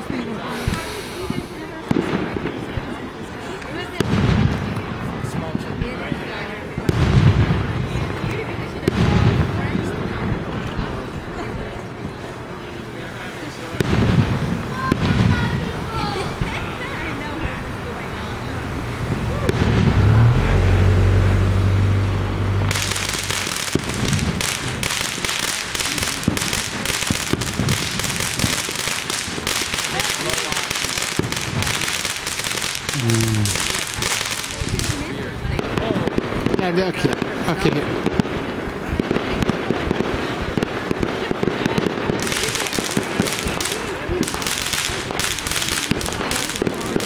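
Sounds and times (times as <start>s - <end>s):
sharp firework pops: 0.0s - 10.9s, 13.8s - 15.7s, 19.4s - 20.3s, 22.7s - 47.0s
fireworks crackling: 0.0s - 47.0s.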